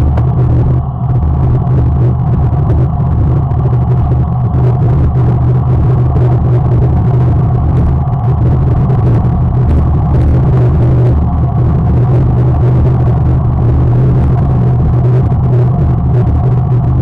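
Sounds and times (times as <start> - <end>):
wind and road noise rumble: 0.0 - 17.0.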